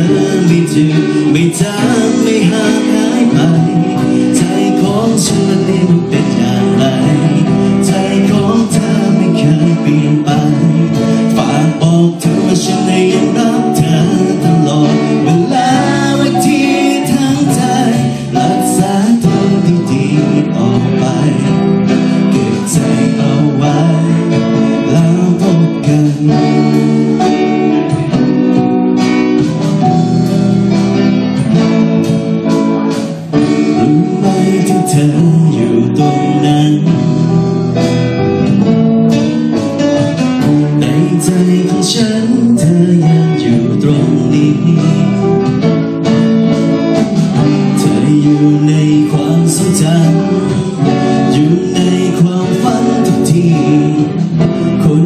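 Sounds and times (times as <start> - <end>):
man singing: 0.0 - 28.8, 29.4 - 55.0
drum kit: 0.0 - 55.0
electric guitar: 0.0 - 55.0.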